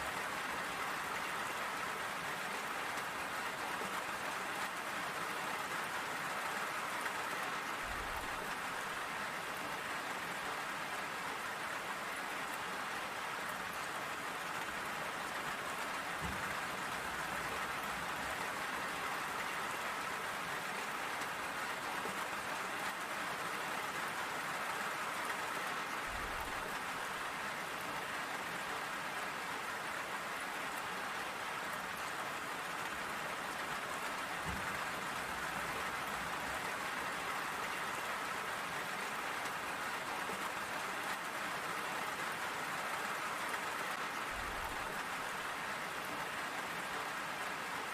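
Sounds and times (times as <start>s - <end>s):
rain pattering on surfaces: 0.0s - 47.9s.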